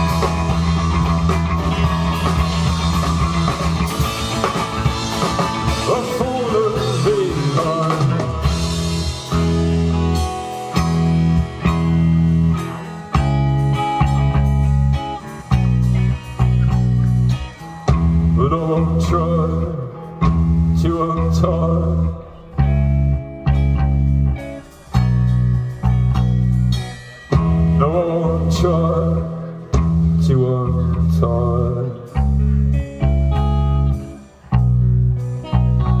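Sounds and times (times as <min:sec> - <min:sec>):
guitar: 0:00.0 - 0:36.0
loud sustained bass line: 0:00.0 - 0:36.0.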